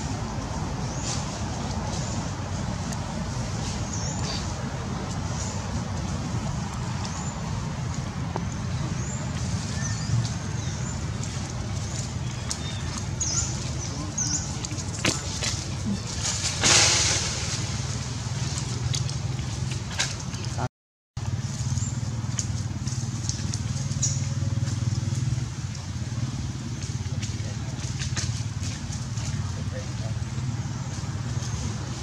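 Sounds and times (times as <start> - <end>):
low motor hum: 0.0 - 32.0.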